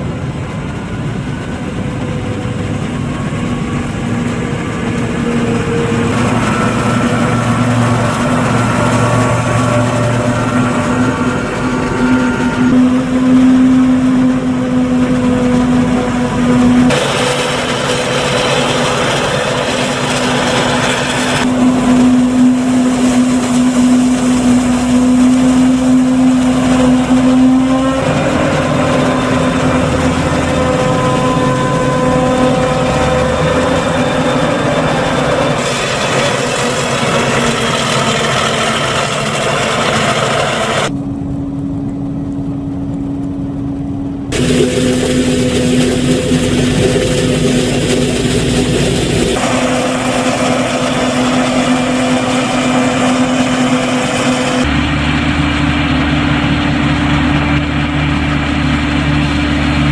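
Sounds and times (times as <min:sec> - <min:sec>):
tractor running: 0:00.0 - 0:59.9.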